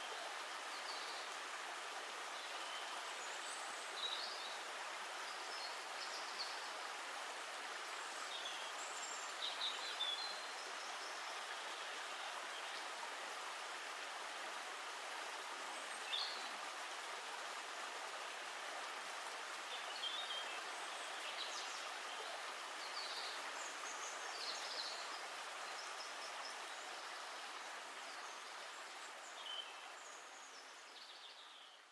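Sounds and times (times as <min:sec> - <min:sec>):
flowing water: 0:00.0 - 0:31.9.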